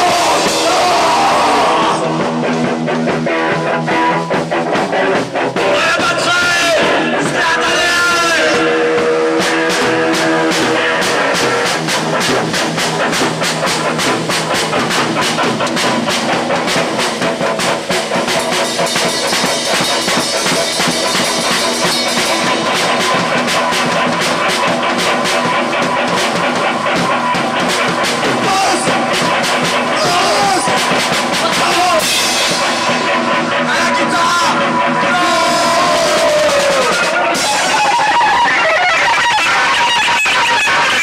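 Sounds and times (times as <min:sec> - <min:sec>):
drum kit fast hits: 0:00.0 - 0:41.0
rock band playing live: 0:00.0 - 0:41.0.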